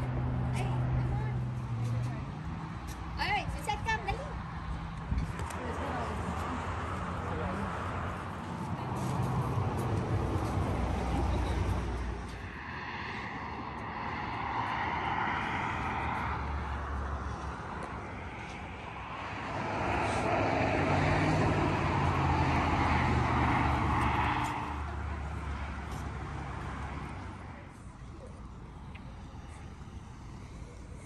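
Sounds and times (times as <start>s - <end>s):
highway traffic rushing: 0.0s - 31.0s
vehicle passing: 0.0s - 31.0s.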